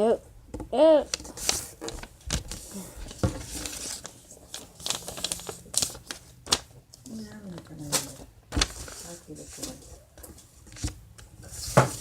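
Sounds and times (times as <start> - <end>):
paper rustling and crinkling: 1.1 - 12.0.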